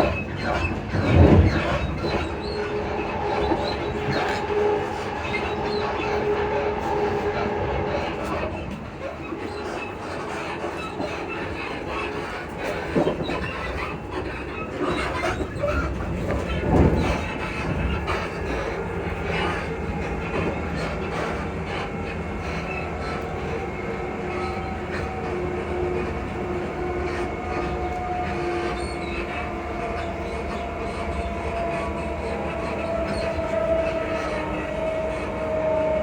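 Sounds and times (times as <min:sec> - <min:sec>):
clicks of train on track: 0:00.0 - 0:36.0
train motor whine: 0:00.0 - 0:36.0
train rumbling along track: 0:00.0 - 0:36.0.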